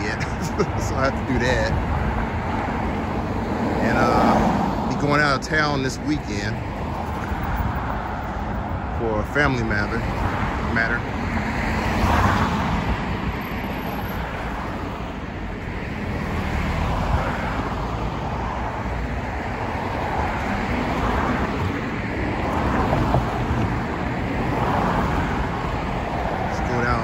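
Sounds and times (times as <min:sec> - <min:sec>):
cars passing by: 0:00.0 - 0:27.0
road noise: 0:00.0 - 0:27.0.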